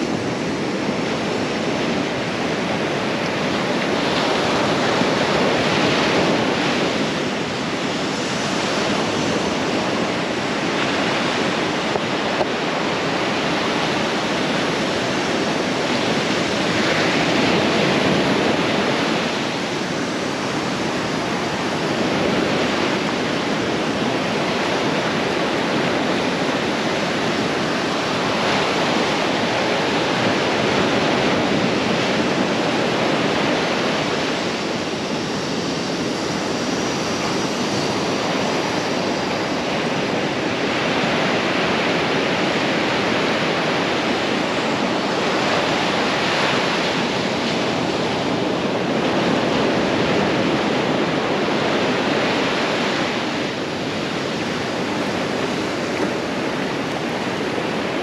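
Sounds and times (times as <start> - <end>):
ocean surf breaking: 0.0 - 58.0.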